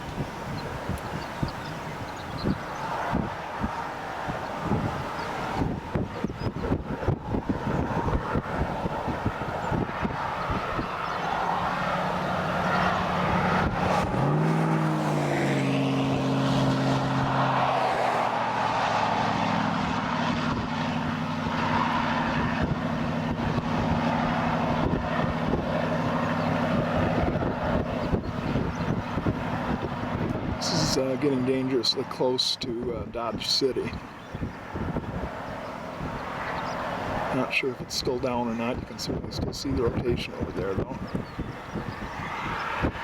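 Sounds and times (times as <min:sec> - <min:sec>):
steady wind: 0:00.0 - 0:43.0.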